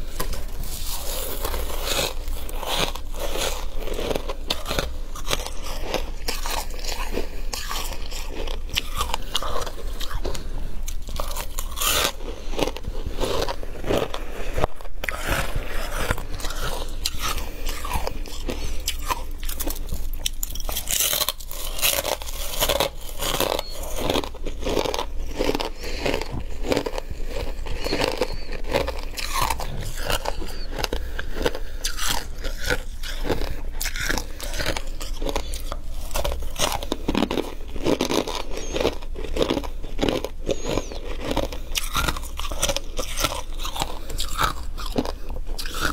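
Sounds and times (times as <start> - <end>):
crunching and chewing ice: 0.0 - 45.9
steady low hum: 0.0 - 45.9.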